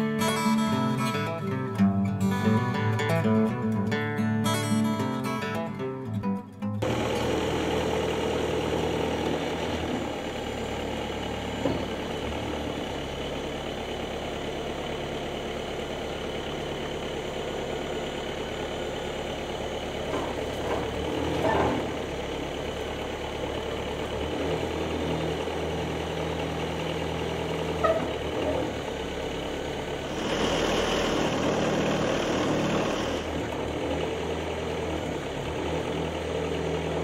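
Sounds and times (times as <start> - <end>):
sawmill engine running: 6.8 - 37.0.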